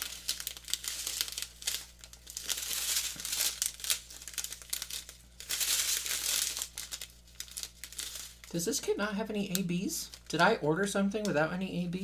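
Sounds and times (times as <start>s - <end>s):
plastic bags crinkling: 0.0s - 10.7s.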